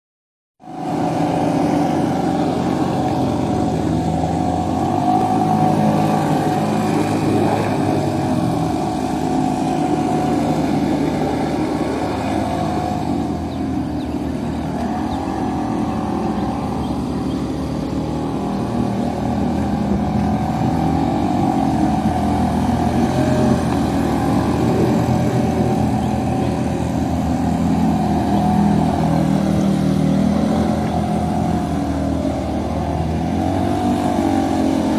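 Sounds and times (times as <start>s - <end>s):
jet ski engines: 0.6s - 34.9s.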